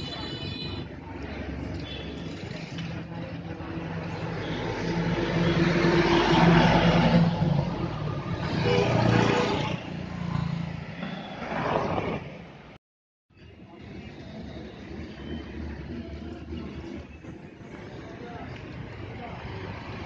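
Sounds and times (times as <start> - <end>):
vehicles passing: 0.0 - 12.8, 13.4 - 20.0.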